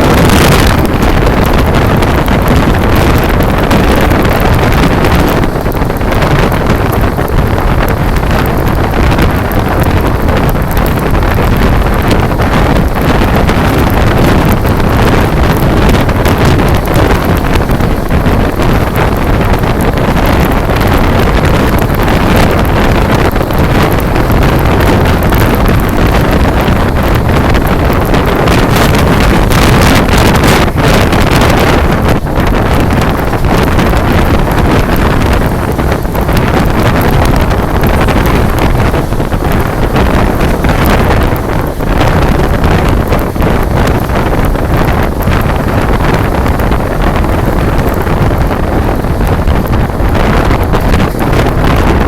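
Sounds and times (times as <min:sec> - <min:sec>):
train rumbling at speed: 0:00.0 - 0:52.0
wind buffeting microphone: 0:00.0 - 0:52.0.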